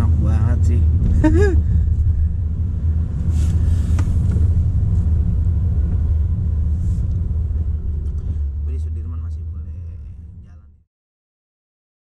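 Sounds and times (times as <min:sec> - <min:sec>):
car driving on wet road: 0:00.0 - 0:10.7.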